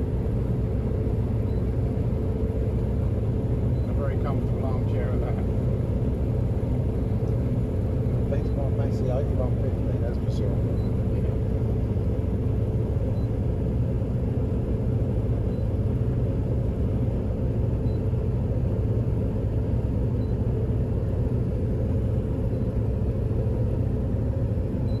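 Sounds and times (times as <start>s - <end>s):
faint steady hum: 0.0s - 25.0s
farm machine low rumble: 0.0s - 25.0s.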